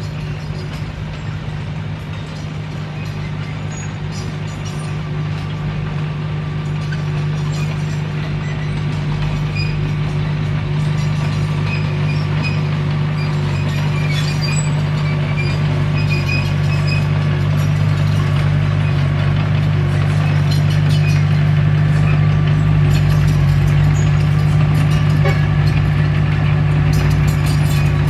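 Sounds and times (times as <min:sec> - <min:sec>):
bulldozer diesel engine drone: 0:00.0 - 0:28.0
steel tracks clinking and squeaking: 0:00.0 - 0:28.0.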